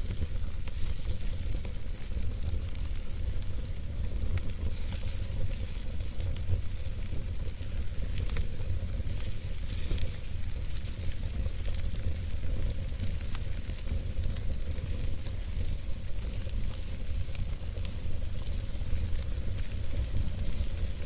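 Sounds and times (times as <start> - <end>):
fire crackling and popping: 0.0 - 21.0
fire hissing: 0.0 - 21.0
low rumble of fire: 0.0 - 21.0.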